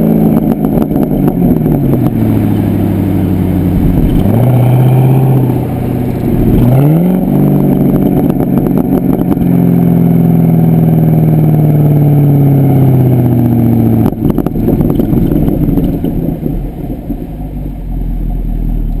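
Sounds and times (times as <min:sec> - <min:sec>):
car engine exhaust drone: 0:00.0 - 0:19.0.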